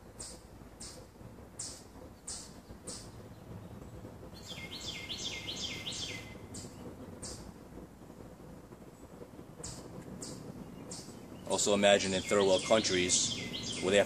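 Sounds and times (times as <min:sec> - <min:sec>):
low steady background noise: 0:00.0 - 0:14.0.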